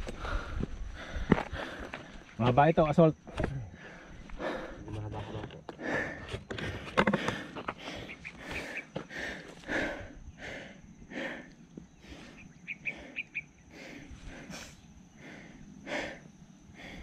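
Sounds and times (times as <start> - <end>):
heavy breathing: 0.0 - 2.4, 3.6 - 17.0.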